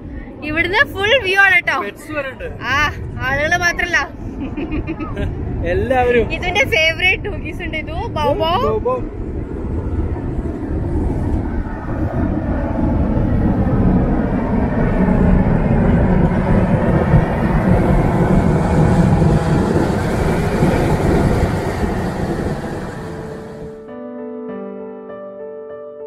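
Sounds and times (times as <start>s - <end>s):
ferry low rumble: 0.0s - 23.9s.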